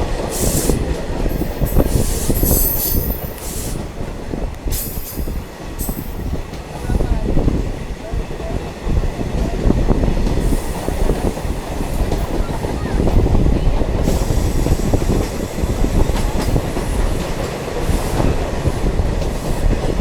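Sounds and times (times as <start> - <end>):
train wheels and engine rumble: 0.0 - 20.0.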